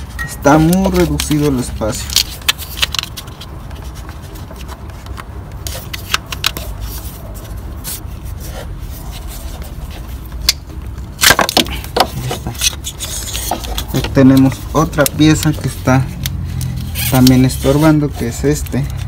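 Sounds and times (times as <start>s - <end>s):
hands clicking and knocking parts: 0.0s - 7.2s, 10.2s - 19.0s.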